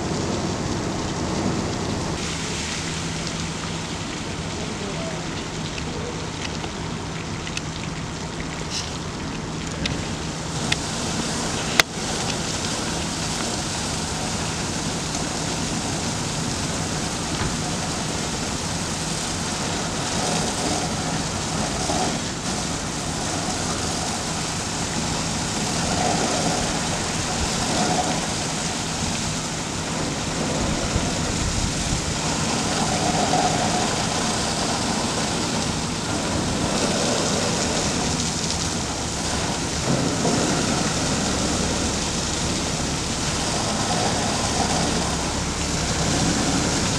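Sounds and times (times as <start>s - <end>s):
engine humming: 0.0s - 46.9s
fire hose spraying water: 0.0s - 46.9s.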